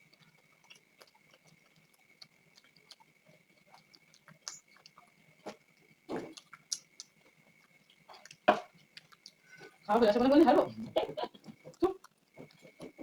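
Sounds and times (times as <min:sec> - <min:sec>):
mouth clicks and smacks: 0:00.1 - 0:09.9, 0:10.5 - 0:13.0.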